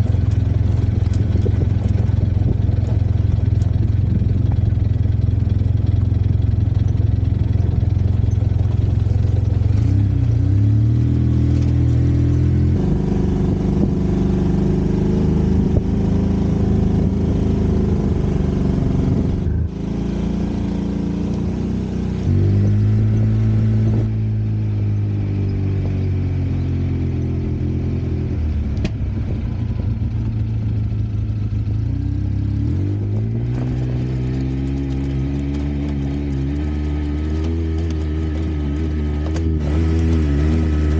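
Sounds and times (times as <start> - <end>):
utility vehicle engine: 0.0 - 40.9.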